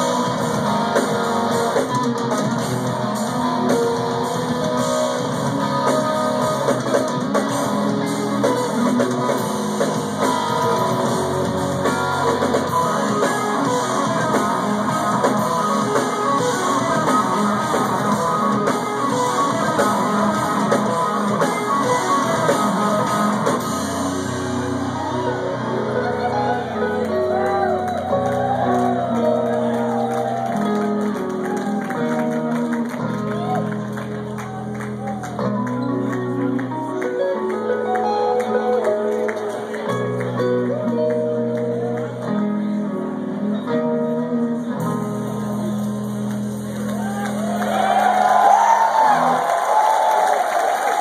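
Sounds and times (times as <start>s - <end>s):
drum kit: 0.0s - 41.7s, 44.8s - 51.0s
electric guitars playing metal: 0.0s - 51.0s.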